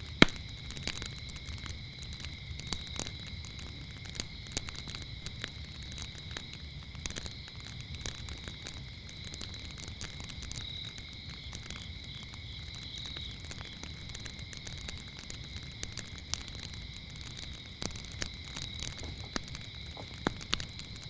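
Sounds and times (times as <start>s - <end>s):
crickets chirping: 0.0s - 21.0s
wood fire crackling: 0.0s - 21.0s.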